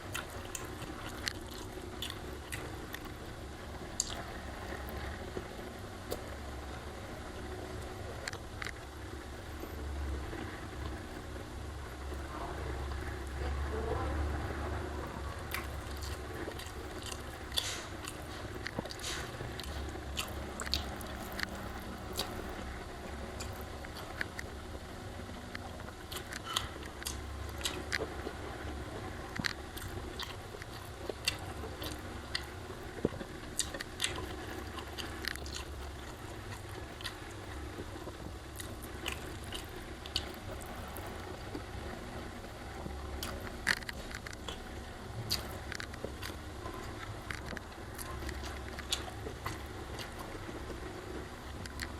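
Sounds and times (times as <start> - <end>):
person chewing food: 0.0 - 11.3, 15.4 - 51.9
steady low hum: 0.0 - 51.9.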